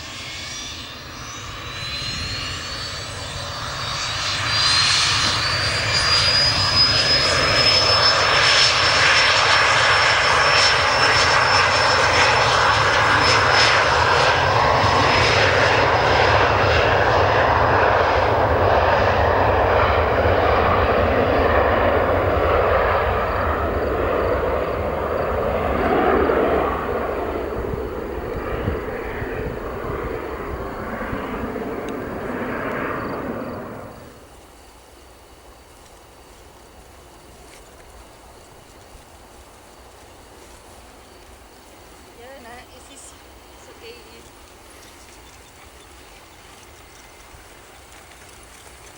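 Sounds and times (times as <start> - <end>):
jet engines roaring and whining: 0.0 - 48.9.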